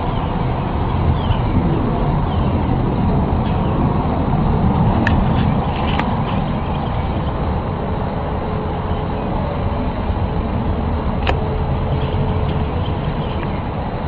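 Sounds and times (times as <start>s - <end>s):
faint hum: 0.0s - 14.0s
low rumbling: 0.0s - 14.0s.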